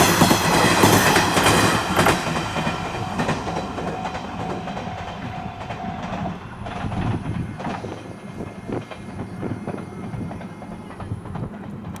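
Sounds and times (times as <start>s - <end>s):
diesel railcar rumbling past: 0.0s - 12.0s
train wheels clacking on rail joints: 0.0s - 12.0s.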